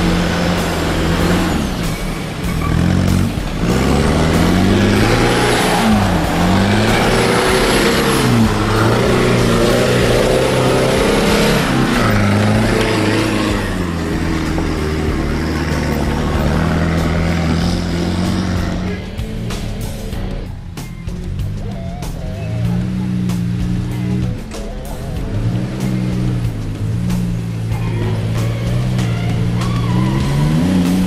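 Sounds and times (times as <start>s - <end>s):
engine revving: 0.0s - 31.0s.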